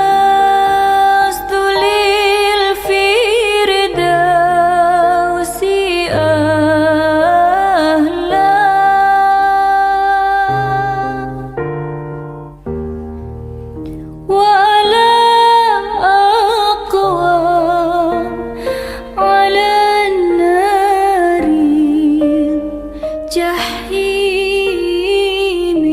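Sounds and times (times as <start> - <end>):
woman singing slow melody: 0.0 - 11.7, 14.3 - 25.9
soft keyboard accompaniment: 0.0 - 25.9.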